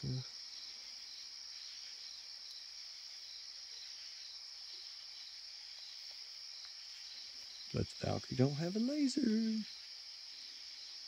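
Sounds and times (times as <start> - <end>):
night insects droning: 0.0 - 11.0.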